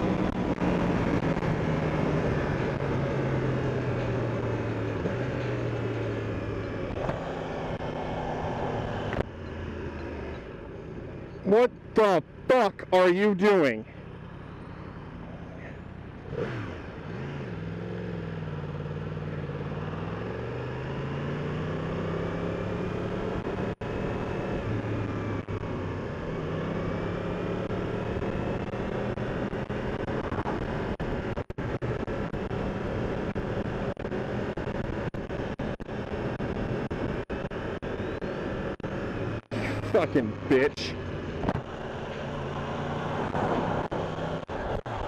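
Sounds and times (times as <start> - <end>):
motorcycle engine: 0.0 - 45.0
wind and road noise: 0.0 - 45.0.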